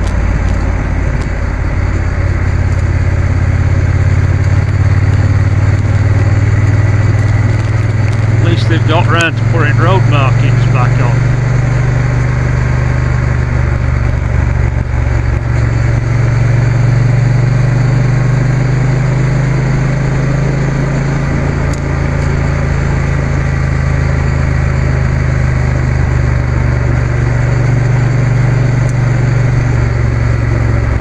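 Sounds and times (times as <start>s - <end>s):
motorcycle engine cruising: 0.0s - 31.0s
wind and road rush: 0.0s - 31.0s.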